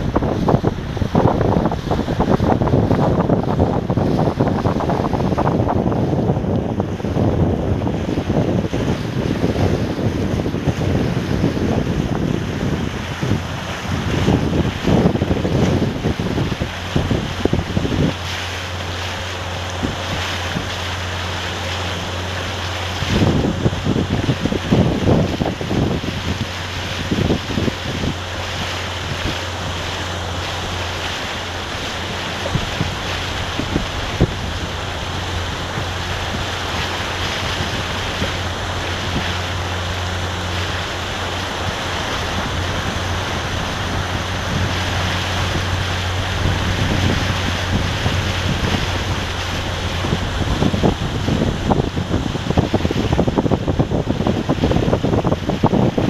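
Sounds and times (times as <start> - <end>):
low hum: 0.0 - 54.2
rushing water: 0.0 - 56.0
wind buffeting microphone: 0.0 - 56.0.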